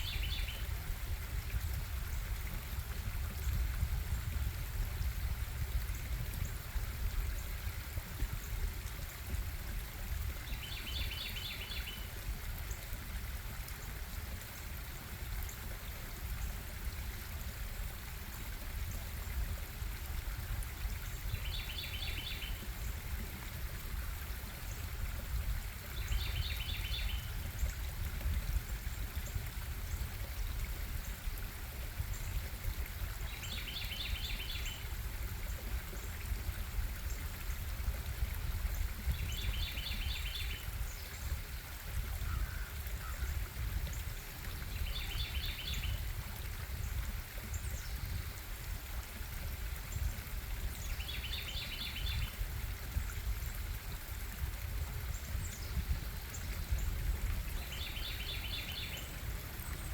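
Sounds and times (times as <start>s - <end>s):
stream water running over rocks: 0.0s - 59.9s.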